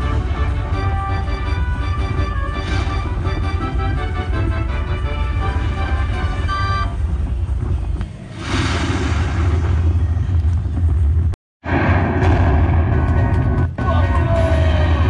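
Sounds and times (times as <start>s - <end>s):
rumbling hissing thunder effect: 0.0s - 13.1s.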